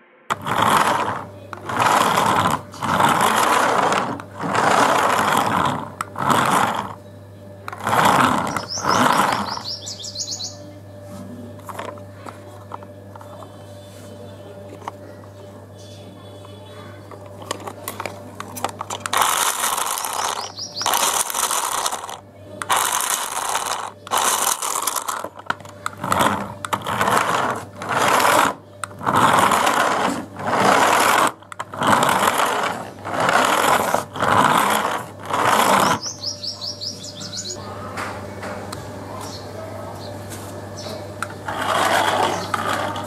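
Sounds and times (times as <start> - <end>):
toy car electric motor buzzing: 0.3 - 10.6, 11.6 - 13.5, 17.0 - 37.6, 41.2 - 43.0.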